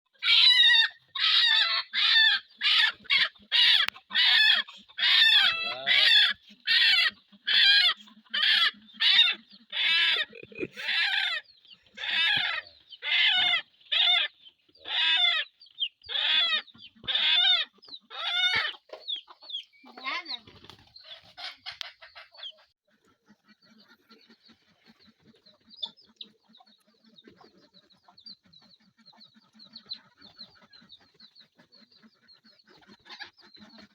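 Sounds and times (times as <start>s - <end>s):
chickens calling: 0.1s - 33.9s.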